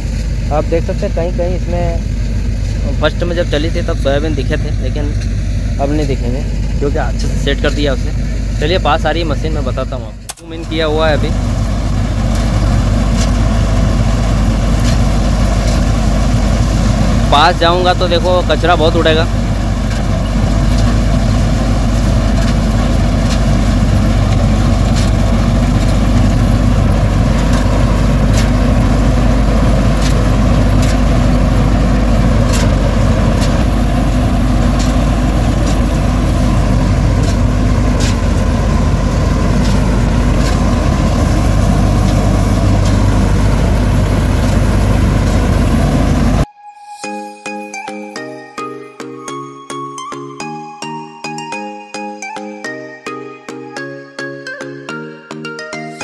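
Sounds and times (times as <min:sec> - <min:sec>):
combine harvester engine drone: 0:00.0 - 0:46.5.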